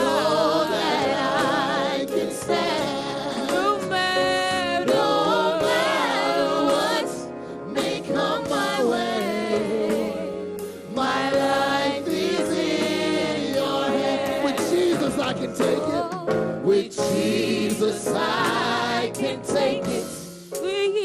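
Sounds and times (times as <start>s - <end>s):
gospel choir singing: 0.0s - 21.0s
instrumental backing: 0.0s - 21.0s.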